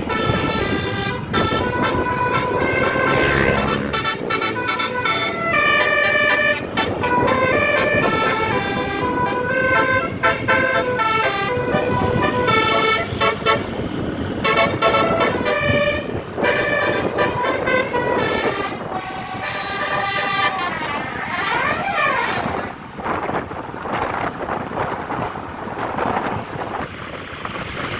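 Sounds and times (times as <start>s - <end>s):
musical air horn melody: 0.0s - 22.6s.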